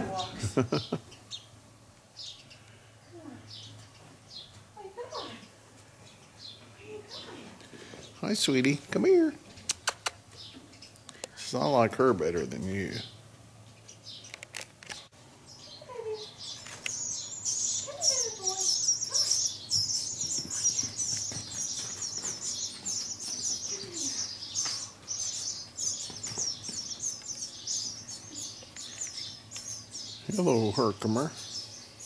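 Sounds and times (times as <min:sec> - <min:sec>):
small birds chirping rapidly: 0:00.0 - 0:32.0.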